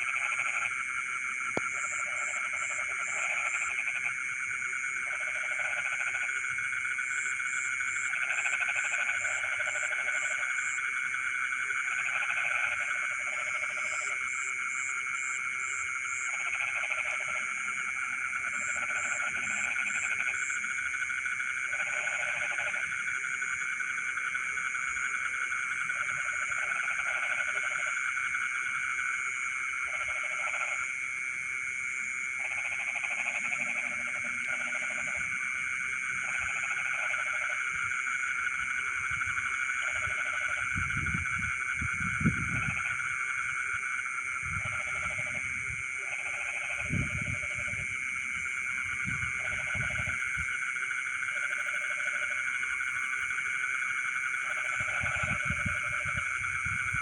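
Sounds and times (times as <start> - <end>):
frogs and insects trilling: 0.0 - 57.0.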